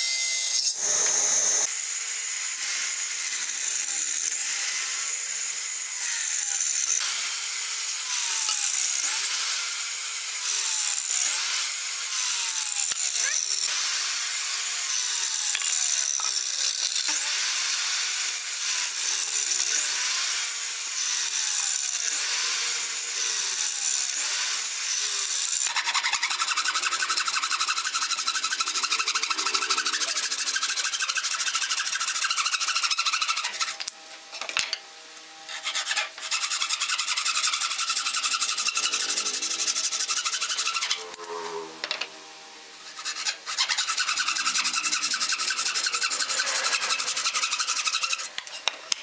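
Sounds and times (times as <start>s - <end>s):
saw cutting wooden boards: 0.0s - 49.0s.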